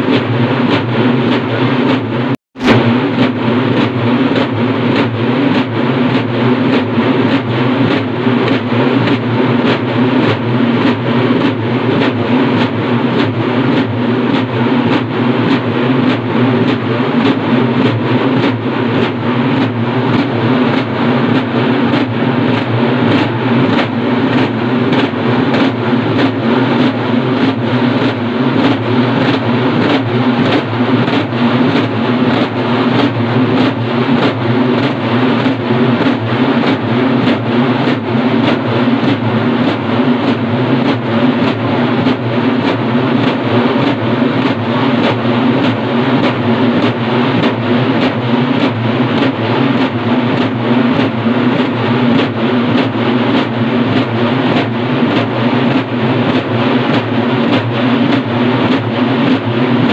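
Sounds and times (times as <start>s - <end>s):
drum ensemble playing: 0.0s - 59.9s.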